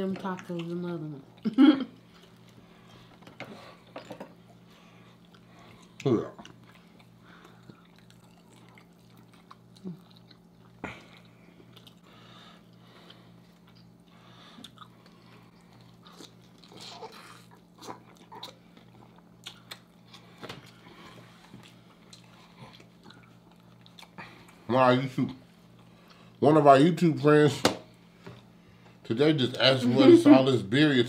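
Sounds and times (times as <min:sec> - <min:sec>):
people chewing tacos: 0:00.2 - 0:26.4.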